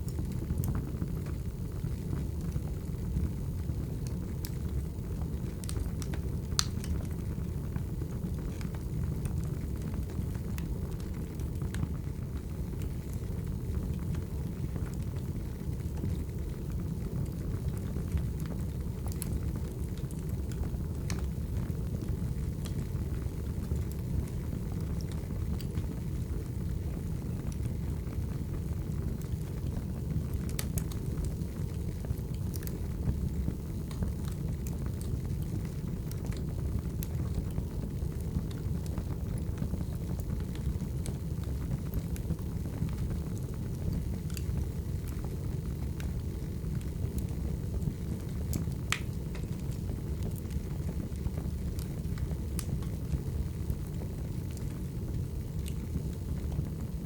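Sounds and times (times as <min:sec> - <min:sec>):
burning logs popping and crackling: 0:00.0 - 0:57.0
flames low rumble: 0:00.0 - 0:57.0.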